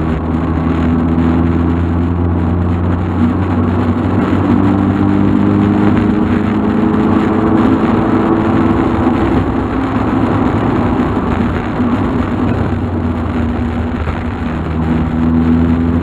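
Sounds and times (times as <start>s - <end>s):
car engine running: 0.0s - 16.0s
road noise: 0.0s - 16.0s.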